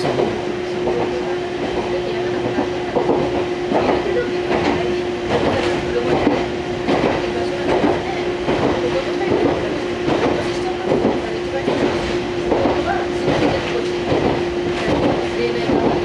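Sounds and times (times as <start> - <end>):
train motor hum: 0.0 - 16.0
train wheels rumbling: 0.0 - 16.0.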